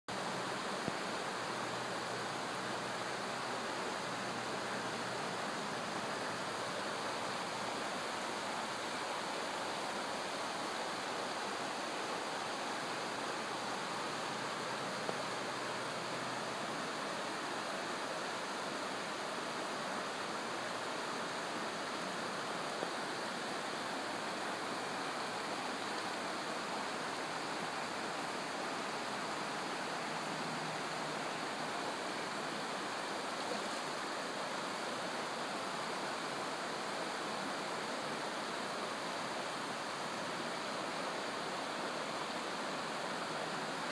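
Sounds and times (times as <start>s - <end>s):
river water rushing over stones: 0.1s - 43.9s.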